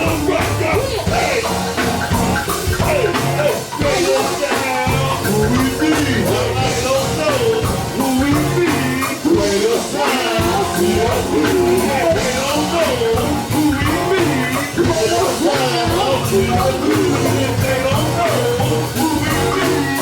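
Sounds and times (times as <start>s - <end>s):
live band playing: 0.0s - 20.0s
low bass notes: 0.0s - 20.0s
wavering lead melody: 0.0s - 20.0s.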